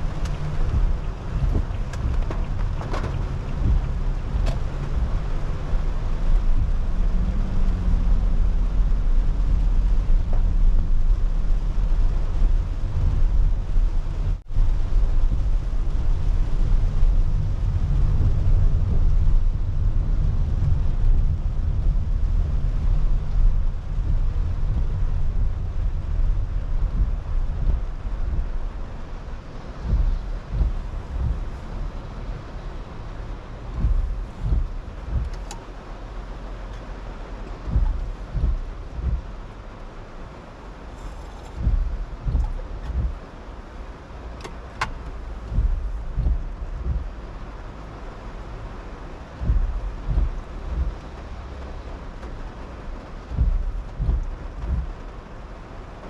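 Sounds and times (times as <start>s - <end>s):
rain hiss: 0.0s - 56.0s
road and tyre rumble: 0.0s - 56.0s.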